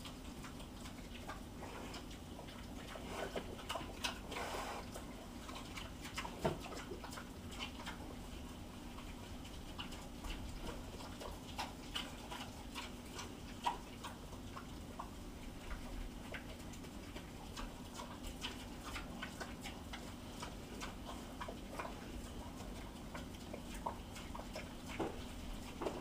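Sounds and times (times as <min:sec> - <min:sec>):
faint steady hum: 0:00.0 - 0:26.0
pig chewing and smacking: 0:00.0 - 0:26.0.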